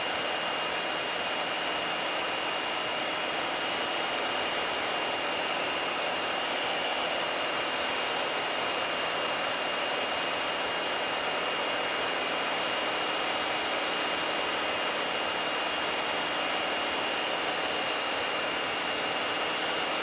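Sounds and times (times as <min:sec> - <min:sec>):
aircraft cabin engine drone: 0:00.0 - 0:20.0.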